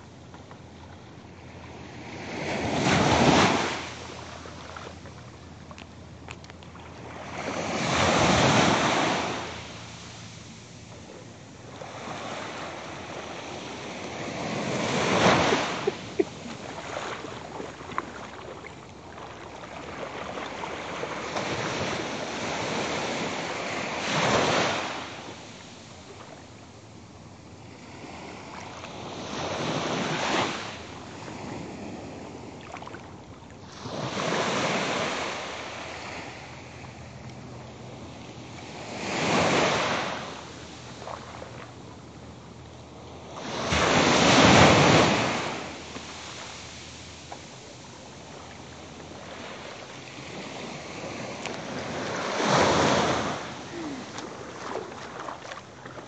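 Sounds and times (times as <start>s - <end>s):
small waves washing ashore: 0.0s - 56.0s.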